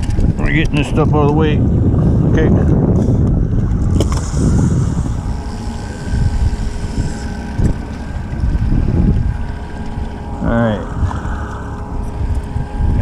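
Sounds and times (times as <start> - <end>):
outboard motor humming: 0.0 - 13.0
wind buffeting microphone: 0.0 - 13.0.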